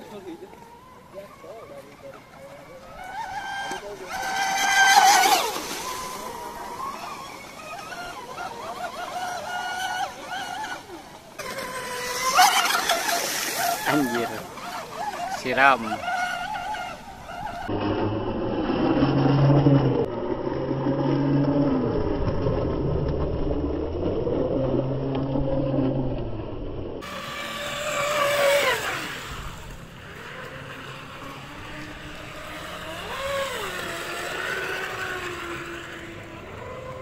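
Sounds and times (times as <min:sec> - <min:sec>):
model boat motor running: 0:00.0 - 0:26.1, 0:27.0 - 0:37.0.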